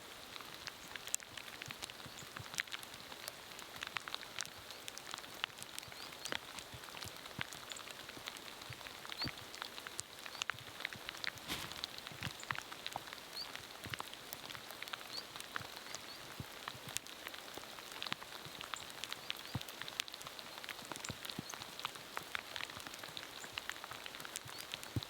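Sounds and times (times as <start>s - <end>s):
light drizzle hissing: 0.0s - 25.0s
raindrop ticks and taps: 0.8s - 11.4s, 12.2s - 25.0s.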